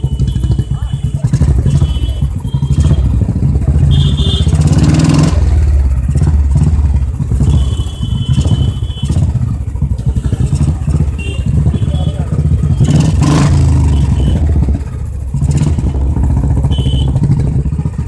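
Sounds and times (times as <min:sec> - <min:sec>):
motorcycle engine with exhaust thump: 0:00.0 - 0:18.0.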